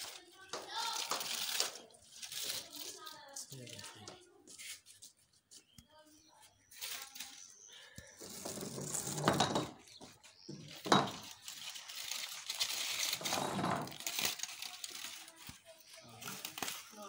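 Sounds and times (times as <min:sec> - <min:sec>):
aluminium foil crinkling: 0:00.0 - 0:05.0, 0:06.7 - 0:09.2, 0:10.6 - 0:17.0.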